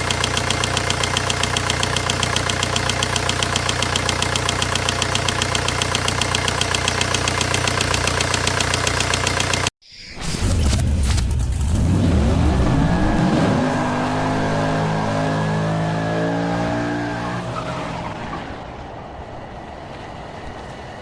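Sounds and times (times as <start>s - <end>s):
diesel engine revving: 0.0s - 9.7s, 11.5s - 18.8s.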